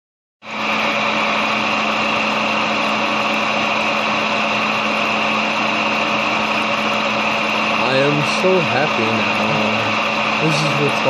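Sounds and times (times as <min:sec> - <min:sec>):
milling machine hum and whine: 0:00.4 - 0:11.0.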